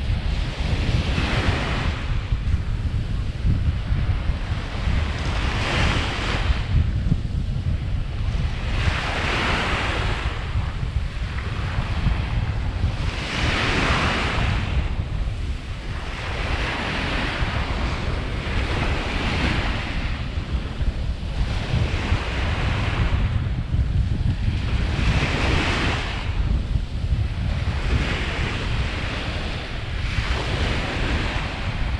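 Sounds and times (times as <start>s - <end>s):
small waves washing on sand: 0.0s - 31.9s
wind rumble on microphone: 0.0s - 31.9s.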